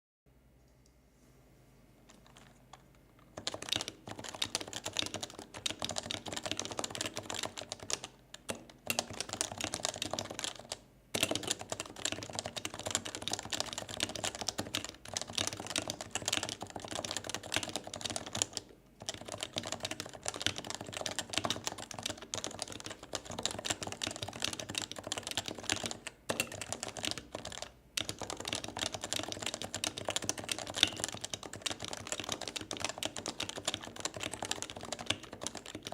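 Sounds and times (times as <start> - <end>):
fast keyboard typing: 3.2 - 35.9.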